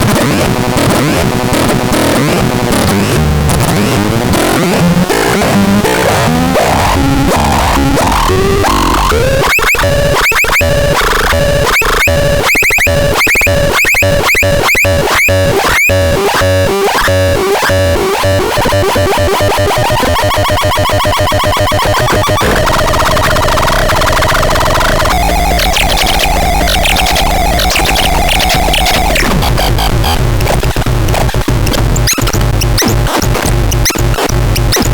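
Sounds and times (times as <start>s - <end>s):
harsh electronic sound effects: 4.3s - 34.9s.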